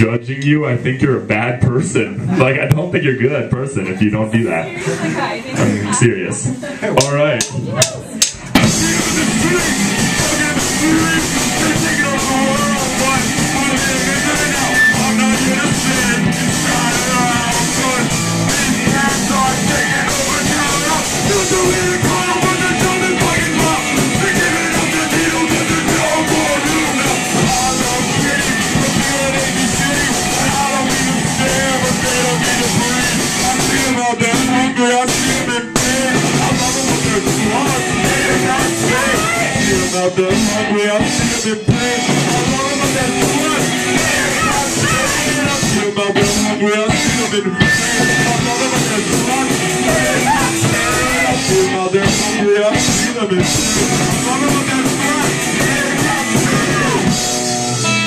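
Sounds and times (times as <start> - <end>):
punk rock band playing live: 0.0 - 58.0.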